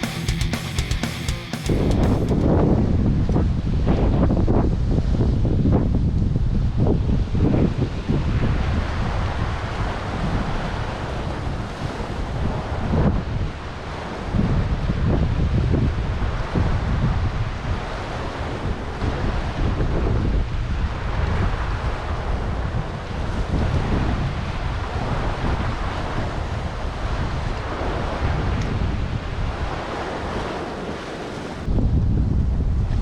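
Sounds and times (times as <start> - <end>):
wind buffeting microphone: 1.8 - 33.0.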